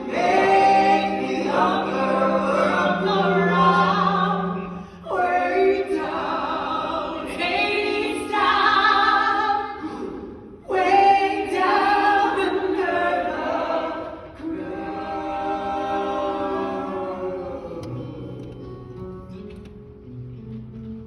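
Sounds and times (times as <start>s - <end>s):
ensemble singing held notes: 0.0s - 19.9s.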